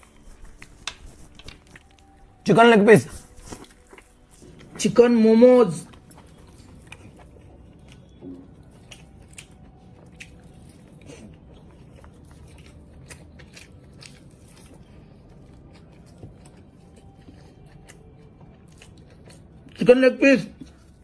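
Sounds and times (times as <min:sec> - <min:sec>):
man chewing dumplings: 0:00.0 - 0:21.0.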